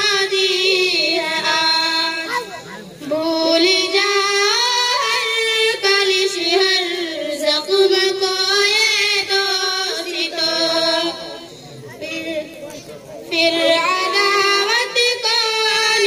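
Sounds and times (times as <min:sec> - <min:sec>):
girls singing into microphones: 0:00.0 - 0:16.0.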